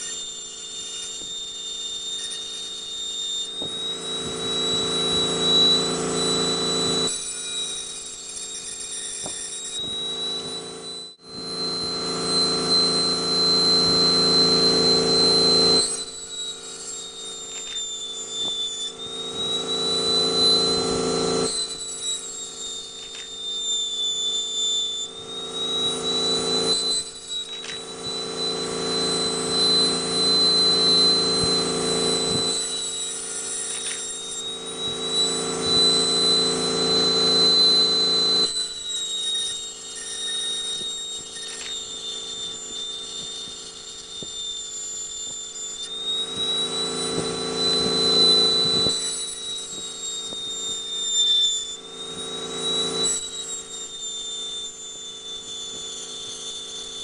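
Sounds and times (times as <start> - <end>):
engraving tool whining on glass: 0.0 - 57.0.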